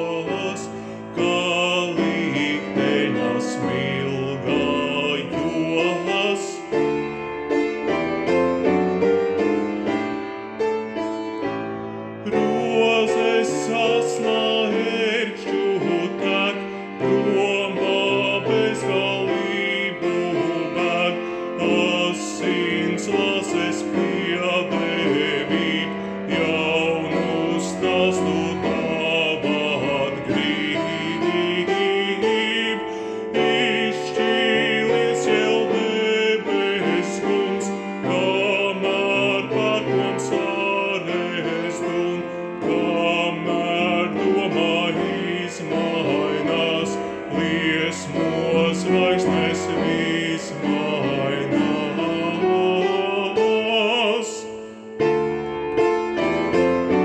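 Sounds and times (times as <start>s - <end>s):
man singing with vibrato: 0.0s - 7.6s, 12.2s - 55.1s
piano playing: 0.0s - 57.0s.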